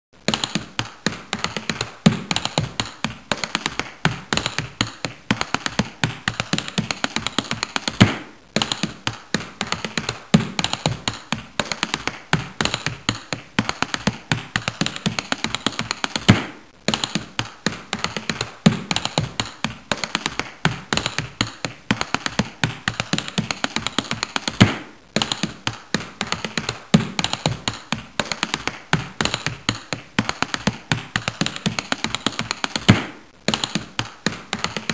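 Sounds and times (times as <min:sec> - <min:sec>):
rapid tapping clicks: 0:00.2 - 0:34.9.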